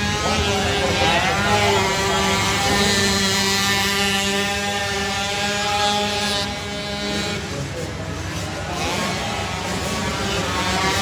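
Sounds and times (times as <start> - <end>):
quad bike engine running hard: 0.0 - 11.0.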